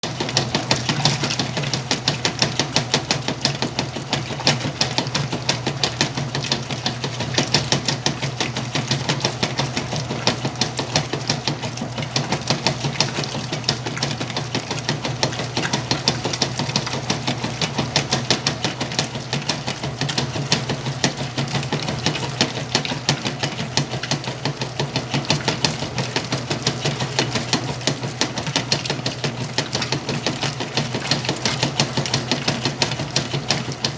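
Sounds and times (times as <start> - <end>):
washing machine running: 0.0 - 33.9.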